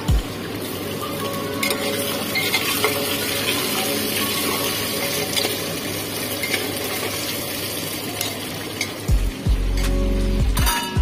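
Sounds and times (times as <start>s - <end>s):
food sizzling in hot oil: 0.0s - 10.5s.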